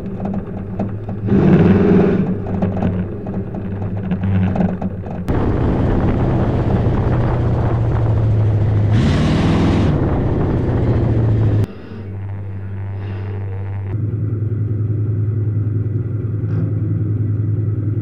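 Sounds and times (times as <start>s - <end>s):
race car engine running hard: 0.0s - 12.3s, 13.5s - 18.0s.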